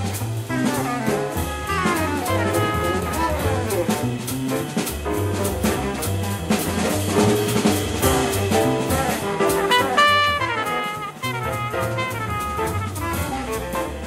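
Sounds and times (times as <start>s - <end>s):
double bass walking: 0.0s - 14.0s
drum kit cymbal strokes: 0.0s - 14.0s
horns playing lines: 0.0s - 14.0s.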